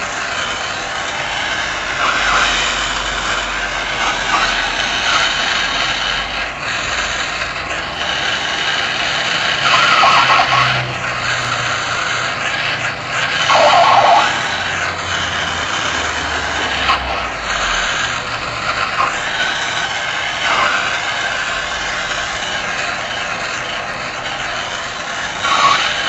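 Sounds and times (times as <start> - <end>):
gas torch flame roaring: 0.0 - 26.0.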